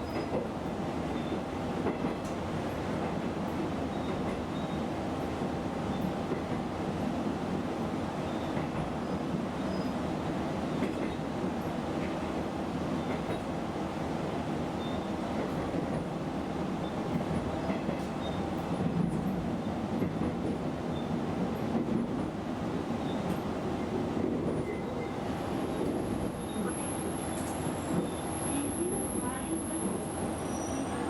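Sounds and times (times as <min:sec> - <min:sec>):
railcar engine and wheels rumbling: 0:00.0 - 0:31.0.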